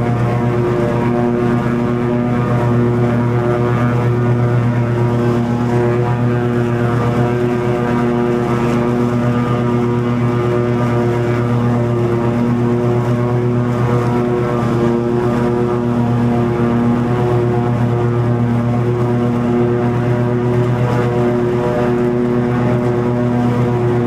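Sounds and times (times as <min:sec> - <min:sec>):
lawn mower cutting grass: 0:00.0 - 0:24.0.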